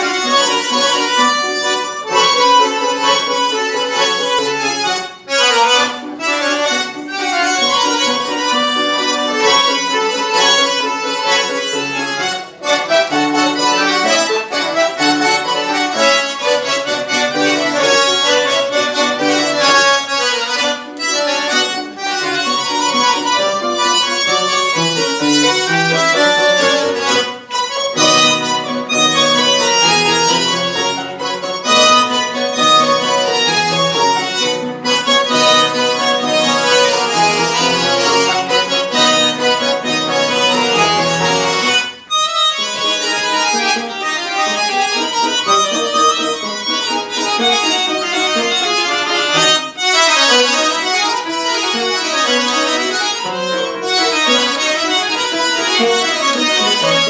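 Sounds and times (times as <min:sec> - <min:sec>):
accordions playing: 0:00.0 - 0:57.0
piano accompaniment: 0:00.0 - 0:57.0.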